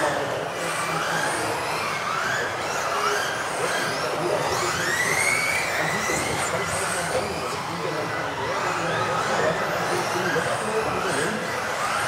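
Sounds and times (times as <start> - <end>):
electric toy car motors whining: 0.0 - 12.0.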